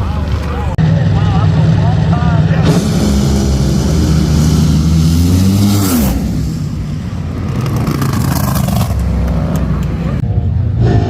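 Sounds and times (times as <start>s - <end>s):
race car engine running loudly: 0.0s - 9.0s.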